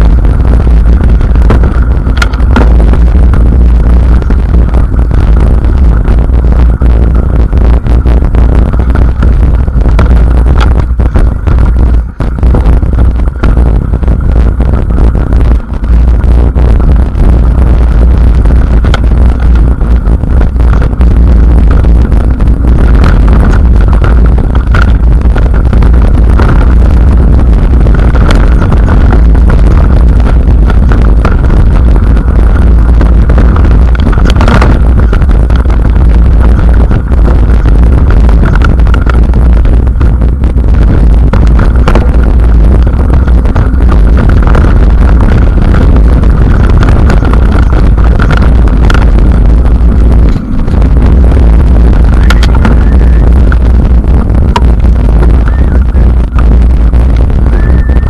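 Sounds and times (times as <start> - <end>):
bike tyres rolling over dirt: 0.0 - 58.0
wind buffeting microphone: 0.0 - 58.0.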